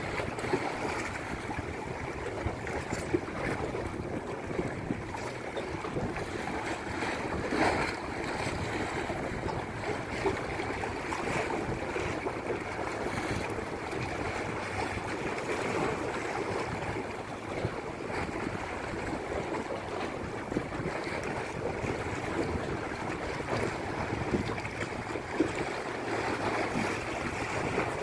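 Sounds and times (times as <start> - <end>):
waves splashing against rocks: 0.0 - 28.0.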